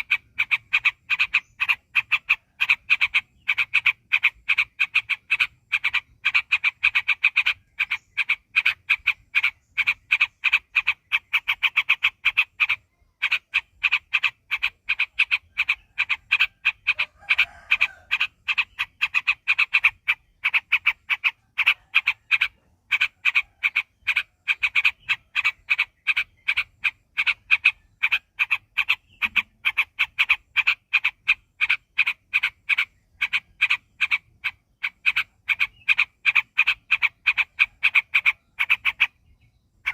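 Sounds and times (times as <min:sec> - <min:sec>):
bird singing rapid repeated notes: 0:00.0 - 0:39.9.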